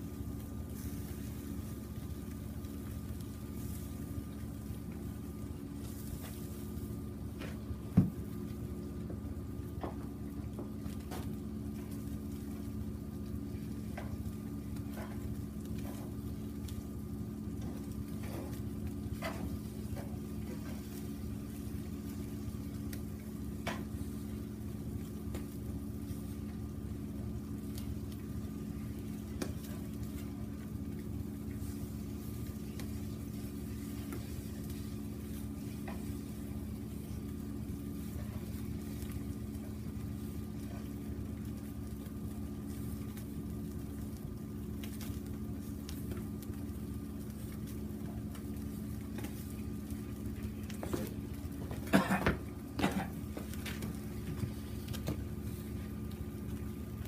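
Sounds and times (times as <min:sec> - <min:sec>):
chicken sizzling in oil: 0:00.0 - 0:57.0
constant low hum: 0:00.0 - 0:57.0.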